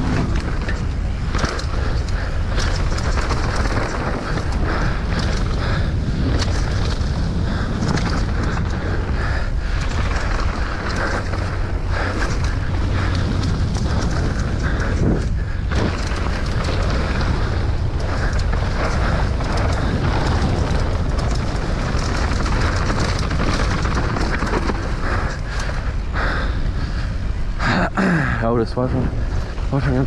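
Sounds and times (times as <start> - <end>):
bike rattling over rough ground: 0.0 - 30.0
wind buffeting microphone: 0.0 - 30.0.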